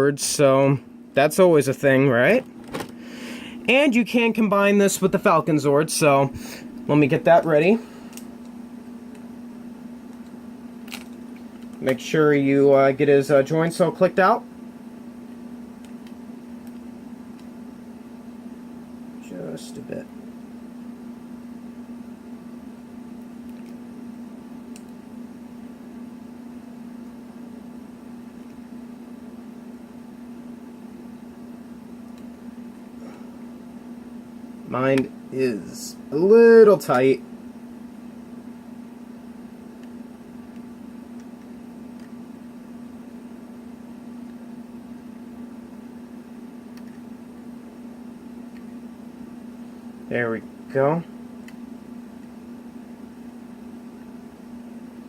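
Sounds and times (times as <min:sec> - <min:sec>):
low room hum: 0:00.0 - 0:55.0.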